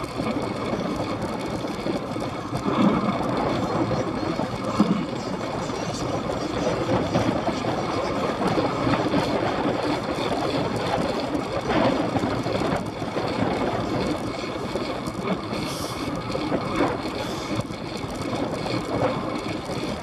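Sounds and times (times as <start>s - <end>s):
bicycle tyre and drivetrain noise: 0.0s - 20.0s
wind buffeting microphone: 0.0s - 20.0s.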